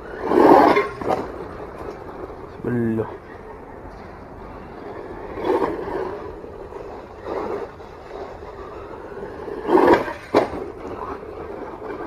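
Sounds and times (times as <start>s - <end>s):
rc truck motor and tyre noise: 0.0s - 12.0s.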